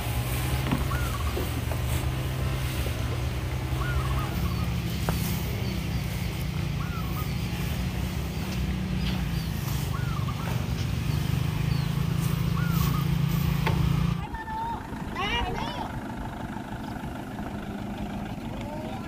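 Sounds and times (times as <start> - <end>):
bird calling: 0.0 - 19.0
engine running: 0.0 - 19.0.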